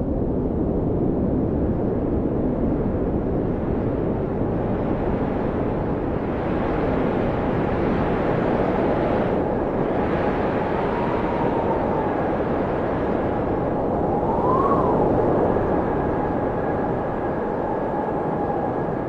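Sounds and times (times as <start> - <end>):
blizzard wind blowing hard: 0.0 - 19.0.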